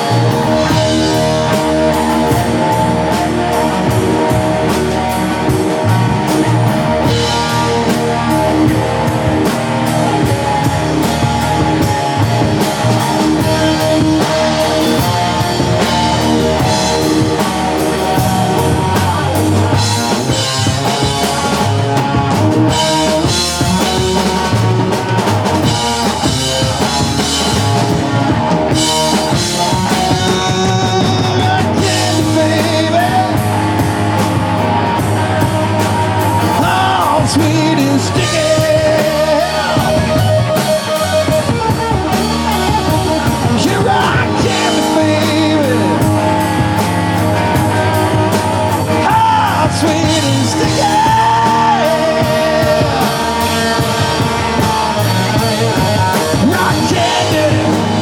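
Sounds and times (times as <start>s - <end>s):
bass guitar: 0.0s - 58.0s
distorted electric guitar: 0.0s - 58.0s
drum kit: 0.0s - 58.0s.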